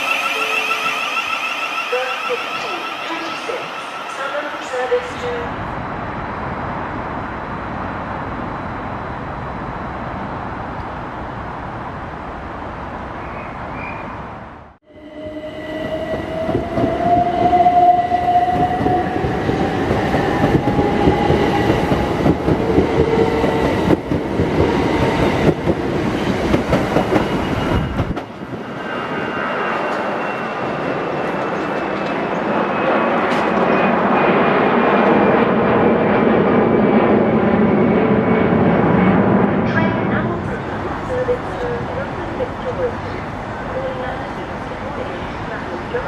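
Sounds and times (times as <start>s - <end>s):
train whine: 0.0s - 46.0s.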